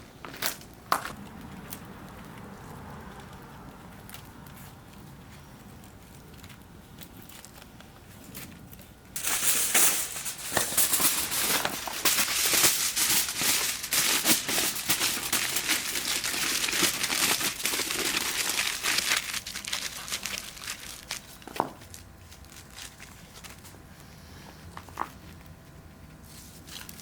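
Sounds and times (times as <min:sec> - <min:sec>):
crinkling and crackling: 0:00.0 - 0:27.0.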